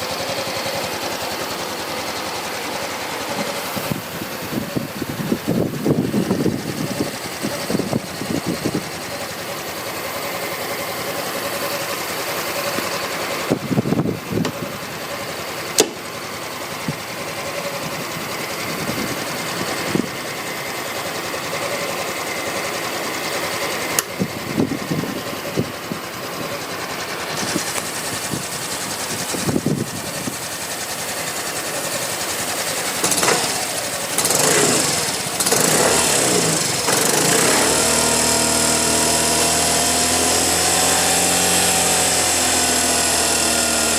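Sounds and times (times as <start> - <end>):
scooter engine idling: 0.0 - 43.9.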